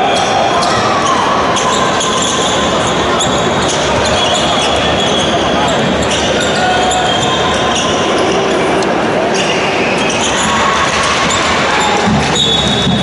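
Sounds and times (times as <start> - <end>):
gym hall din: 0.0 - 13.0
players shouting: 0.0 - 13.0
sneaker squeaks: 0.0 - 13.0.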